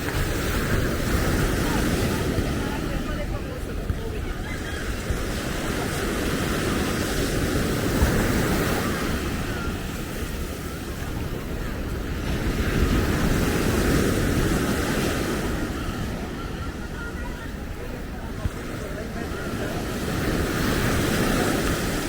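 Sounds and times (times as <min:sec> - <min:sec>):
ocean surf on a beach: 0:00.0 - 0:22.0
wind buffeting microphone: 0:00.0 - 0:22.0.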